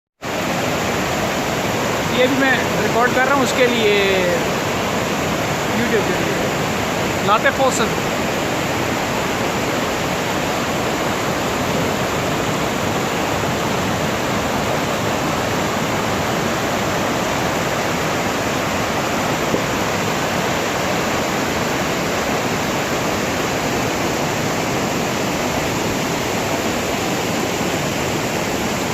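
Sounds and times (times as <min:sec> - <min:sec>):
waterfall roaring: 0:00.2 - 0:28.9.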